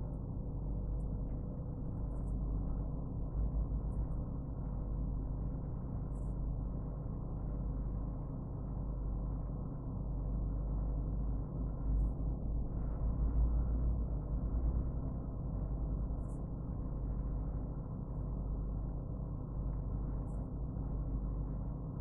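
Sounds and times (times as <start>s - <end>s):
low hum and rumble: 0.0s - 22.0s.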